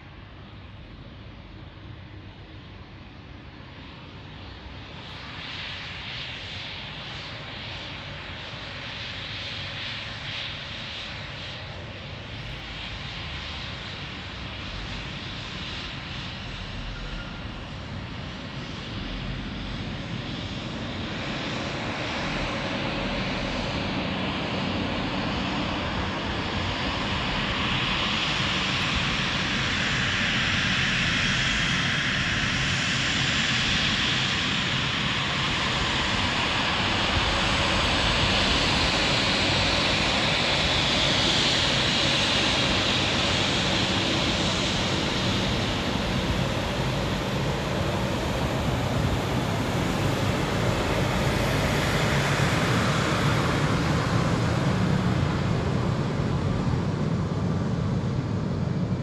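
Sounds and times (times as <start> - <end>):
jet airliner engines whining: 0.0 - 59.0.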